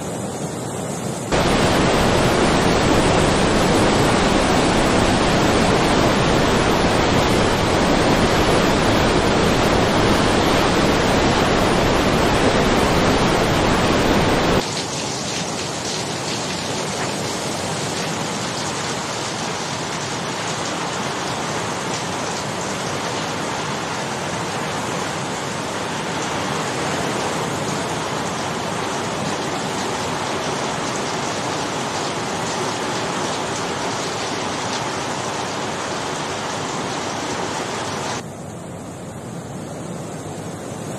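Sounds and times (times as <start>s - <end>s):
floodwater torrent rushing: 0.0s - 38.7s
rain hissing: 1.0s - 38.2s.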